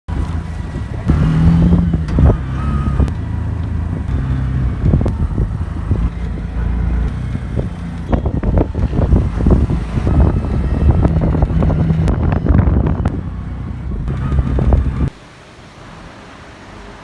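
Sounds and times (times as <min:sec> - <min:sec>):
vehicle engine rumble: 0:00.1 - 0:17.0.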